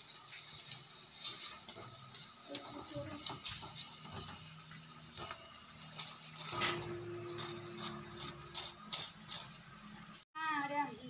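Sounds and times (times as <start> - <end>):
oil sizzling and crackling: 0.0 - 10.3.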